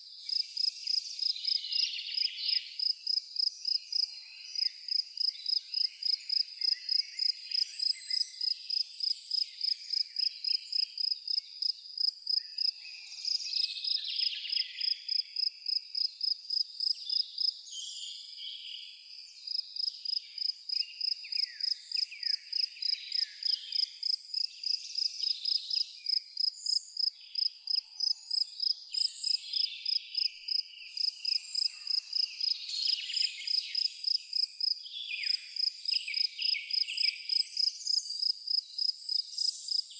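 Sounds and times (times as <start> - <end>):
birds singing: 0.0 - 16.2, 16.8 - 39.9
cricket chirping: 0.0 - 17.6, 18.8 - 39.9.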